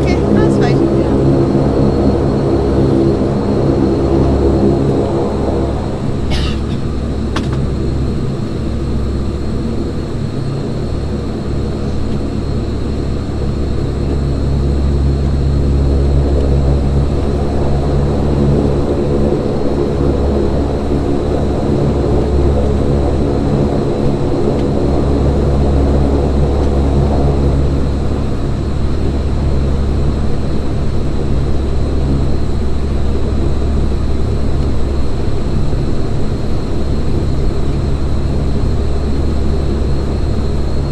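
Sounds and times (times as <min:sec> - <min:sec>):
turboprop engine drone: 0:00.0 - 0:40.9.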